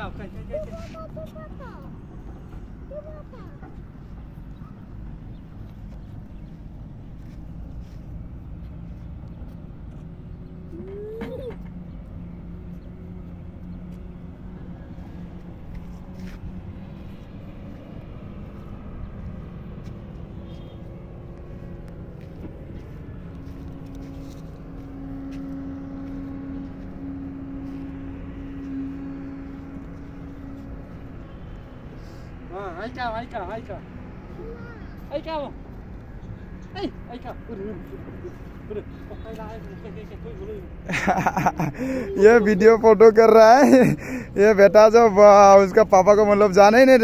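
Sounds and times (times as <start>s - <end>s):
distant road traffic drone: 0.0s - 47.0s.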